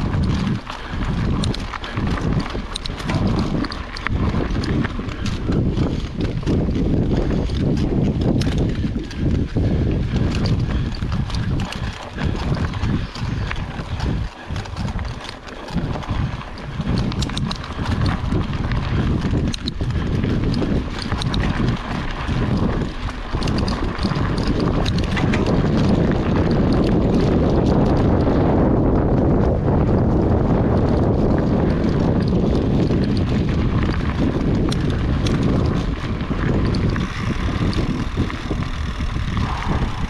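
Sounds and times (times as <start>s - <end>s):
bike rattling over bumps: 0.0s - 40.0s
bike tyres rumbling on trail: 0.0s - 40.0s
wind noise on microphone: 0.0s - 40.0s.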